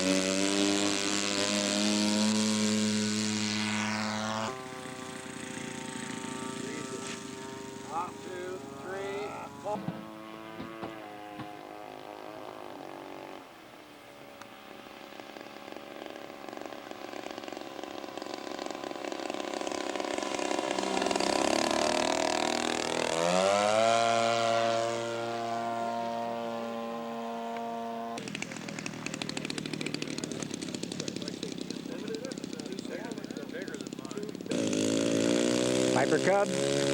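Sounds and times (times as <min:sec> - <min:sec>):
model airplane engine passing: 0:00.0 - 0:36.9
rough pulsing small engine: 0:00.0 - 0:36.9.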